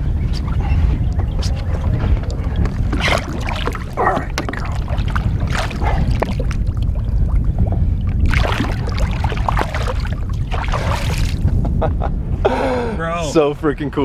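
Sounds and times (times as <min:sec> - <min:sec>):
water splashing and sloshing: 0:00.0 - 0:11.6
wind on microphone: 0:00.0 - 0:12.9.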